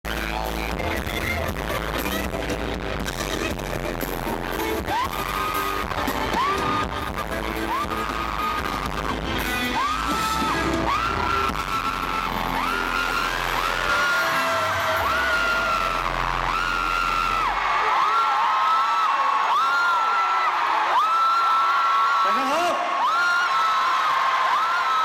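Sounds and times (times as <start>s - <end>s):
loud live concert music: 0.0s - 25.0s
crowd screaming: 0.1s - 25.0s.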